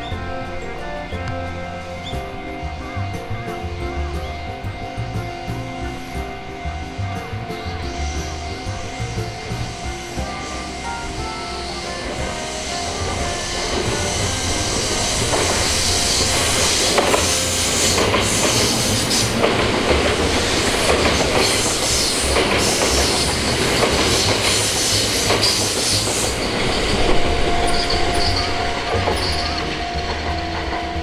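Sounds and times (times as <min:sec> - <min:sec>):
steady high tone: 0:00.0 - 0:31.0
train wheels rumbling on rails: 0:00.0 - 0:31.0
wheels clicking over rail joints: 0:00.0 - 0:31.0.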